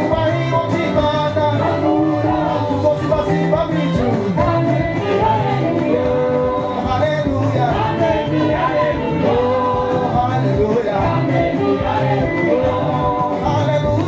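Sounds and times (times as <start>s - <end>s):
choir singing upbeat song: 0.0s - 14.0s
lead singer on microphone: 0.0s - 14.0s.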